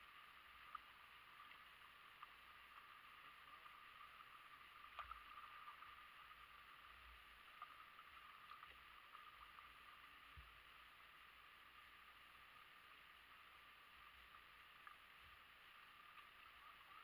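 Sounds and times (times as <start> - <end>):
creek water trickling: 0.0 - 17.0
light water drips: 0.0 - 17.0.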